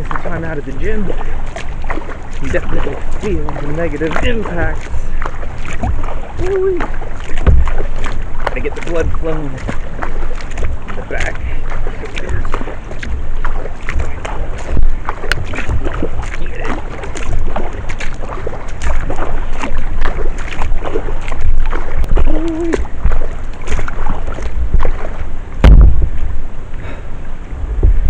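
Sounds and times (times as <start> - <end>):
paddle splashing in water: 0.0 - 27.1
water sloshing along hull: 0.0 - 28.0
wind rumbling on microphone: 0.0 - 28.0.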